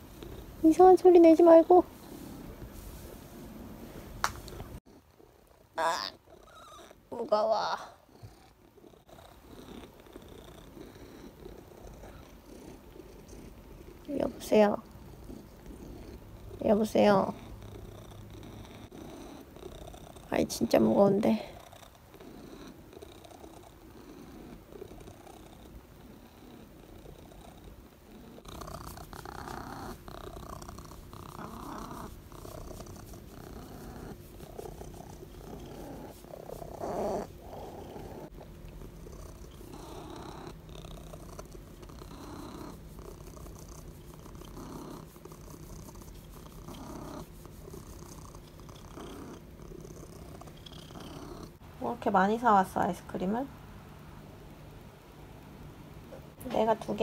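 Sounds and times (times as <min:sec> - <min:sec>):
cat purring: 0:00.0 - 0:53.5.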